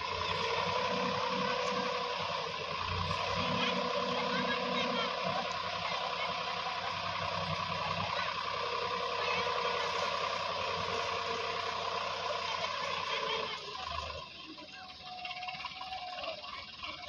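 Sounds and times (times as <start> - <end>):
hydraulics whining: 0.0 - 17.0
tractor engine running: 0.0 - 17.0.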